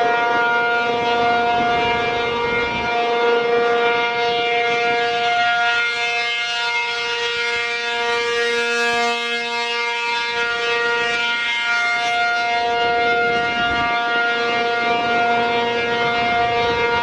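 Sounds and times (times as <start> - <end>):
outdoor warning siren: 0.0 - 17.0.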